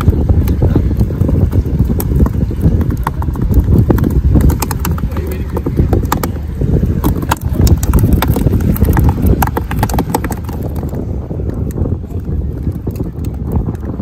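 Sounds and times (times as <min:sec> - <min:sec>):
fish flapping in cooler box: 0:00.0 - 0:14.0
wind buffeting microphone: 0:00.0 - 0:14.0.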